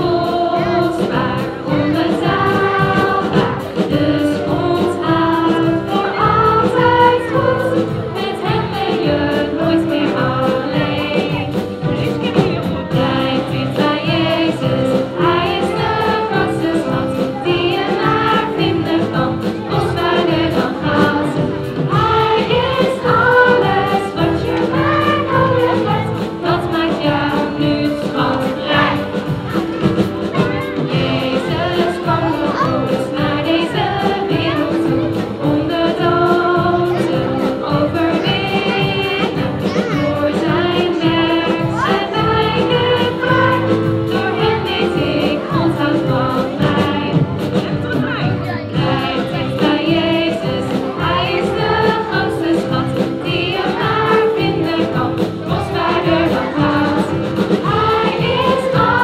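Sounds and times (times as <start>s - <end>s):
children's choir singing: 0.0s - 59.0s
live band playing upbeat song: 0.0s - 59.0s
women singing: 0.0s - 59.0s.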